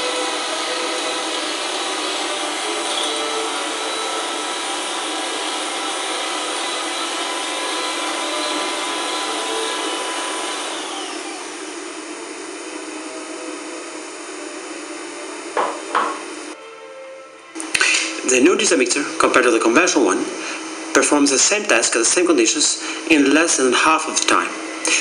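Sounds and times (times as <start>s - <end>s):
electric mixer whine: 0.0s - 16.6s, 17.6s - 25.0s.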